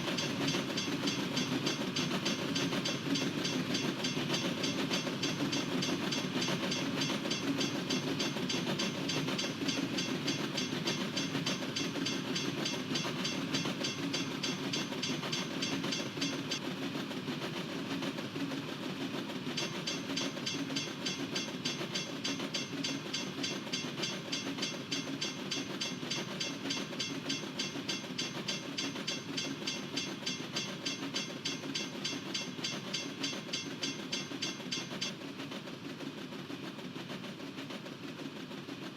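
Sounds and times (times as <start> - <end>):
railroad crossing bell ringing: 0.1 - 16.6, 19.6 - 35.1.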